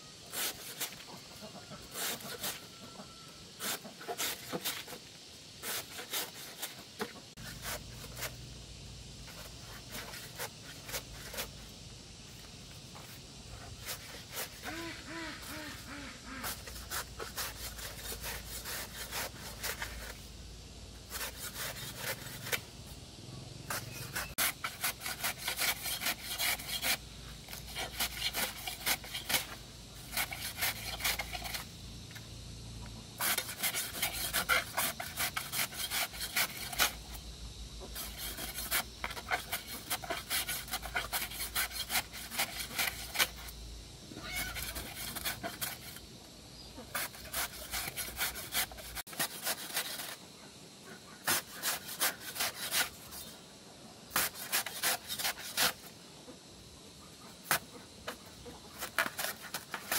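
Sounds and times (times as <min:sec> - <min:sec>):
scraping strokes: 0:00.3 - 0:08.5, 0:09.2 - 0:11.7, 0:12.3 - 0:20.3, 0:21.0 - 0:22.7, 0:23.6 - 0:32.2, 0:33.1 - 0:37.2, 0:37.8 - 0:43.5, 0:44.2 - 0:46.0, 0:46.8 - 0:50.3, 0:51.1 - 0:53.4, 0:54.1 - 0:55.9, 0:57.4 - 0:59.9.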